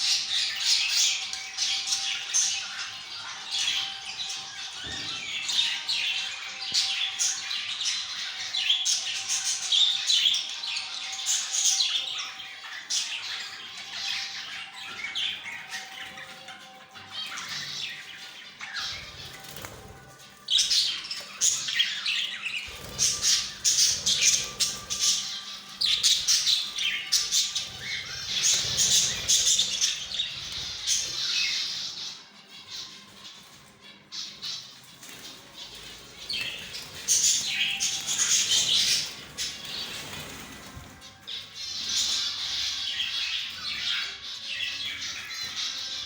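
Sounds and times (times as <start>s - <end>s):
budgerigars chattering and squawking: 0.0s - 46.0s.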